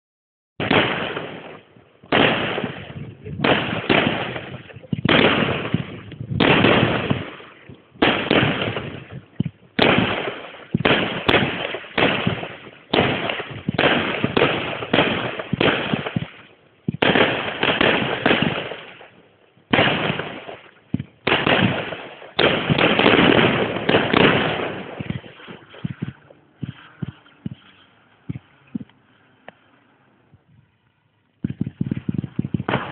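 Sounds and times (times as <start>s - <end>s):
fireworks bursting with echoing rumble: 0.6s - 29.7s, 31.4s - 32.9s.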